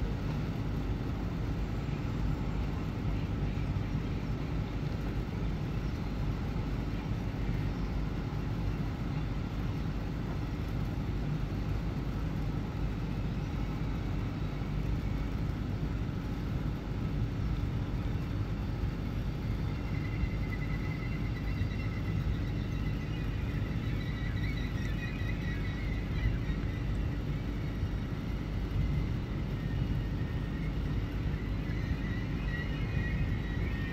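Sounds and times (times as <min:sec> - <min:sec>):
electric train rumbling: 0:00.0 - 0:33.9.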